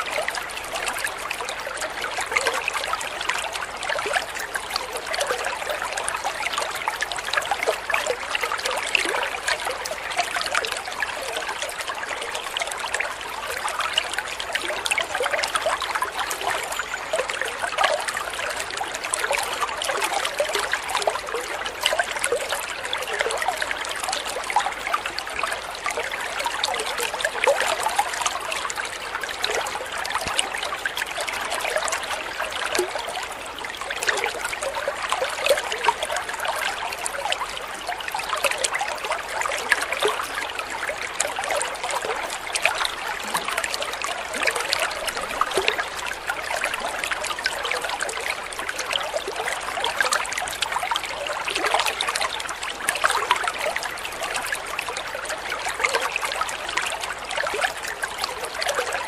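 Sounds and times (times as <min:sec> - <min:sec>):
water trickling into pond: 0:00.0 - 0:59.0.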